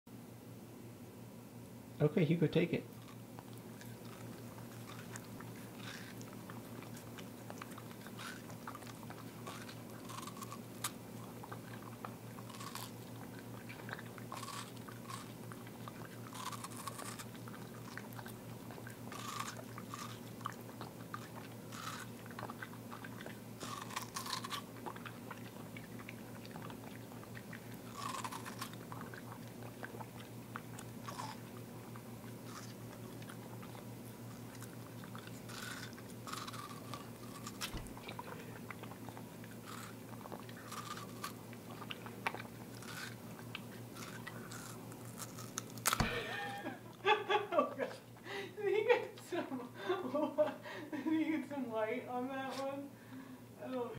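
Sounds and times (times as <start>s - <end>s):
steady low hum: 0.1s - 53.9s
dog chewing watermelon: 2.2s - 46.3s.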